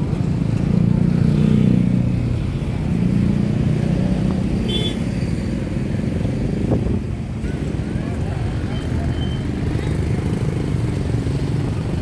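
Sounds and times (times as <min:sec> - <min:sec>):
motor traffic passing: 0:00.0 - 0:12.0.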